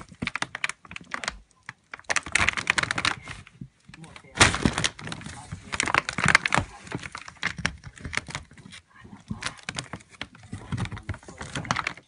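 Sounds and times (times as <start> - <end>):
paper bag crinkling: 0.0 - 12.0.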